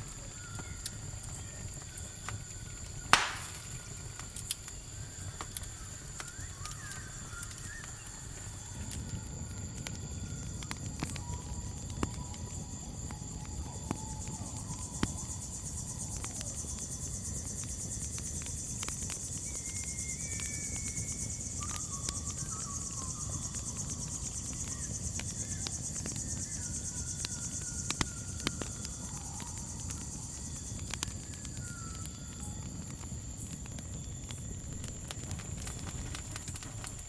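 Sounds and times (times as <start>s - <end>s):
faint whistled notes: 0.0s - 17.5s, 19.2s - 33.4s
crackling campfire: 0.0s - 37.0s
crickets chirping: 0.0s - 37.0s.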